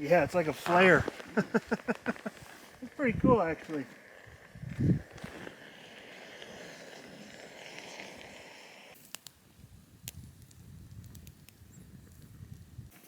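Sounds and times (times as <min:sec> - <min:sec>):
fire starter hissing: 0:00.0 - 0:13.0
faint clicks and crackles: 0:00.2 - 0:13.0.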